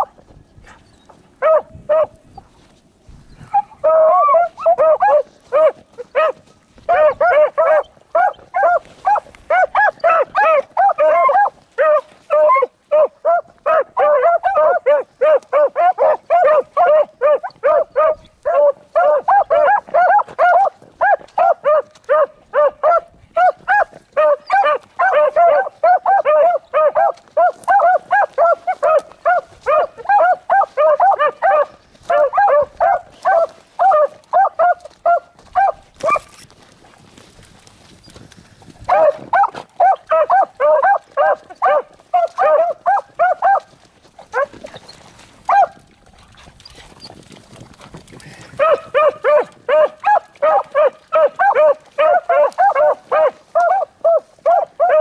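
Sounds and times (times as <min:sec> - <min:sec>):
hounds barking: 0:01.4 - 0:02.2, 0:03.4 - 0:36.4, 0:38.8 - 0:44.8, 0:45.4 - 0:46.9, 0:48.3 - 0:55.0.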